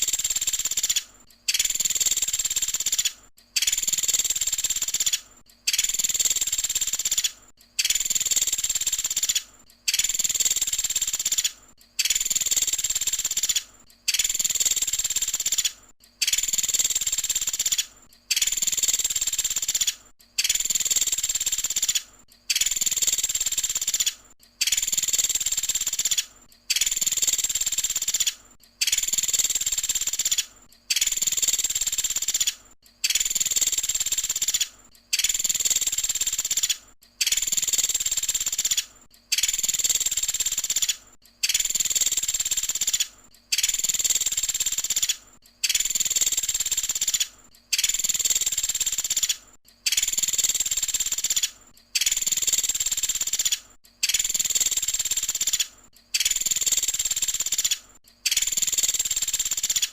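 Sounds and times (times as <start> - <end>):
high-pitched bird song: 0.0 - 59.9.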